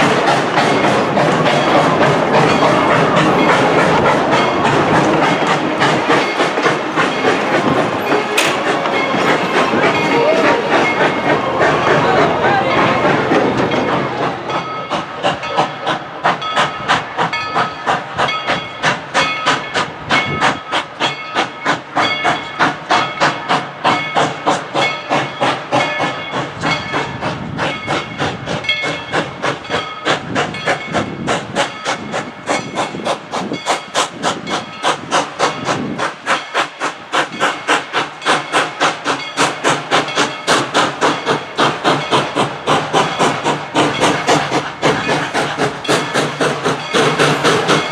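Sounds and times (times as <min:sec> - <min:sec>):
steam locomotive chuffing: 0:00.0 - 0:47.9.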